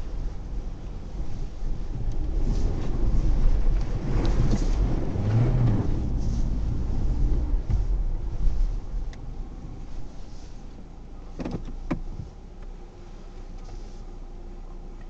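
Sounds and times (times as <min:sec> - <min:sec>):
car rumbling over rough ground: 0:00.0 - 0:15.0.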